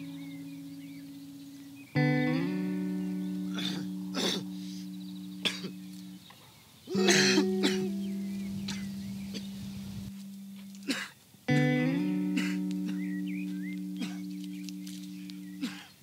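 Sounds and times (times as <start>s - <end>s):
acoustic guitar notes: 0.0s - 6.3s, 6.9s - 15.9s.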